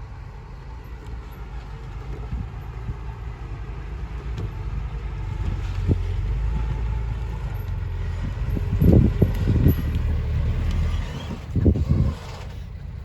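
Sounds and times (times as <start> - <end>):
diesel machinery rumbling: 0.0 - 13.0.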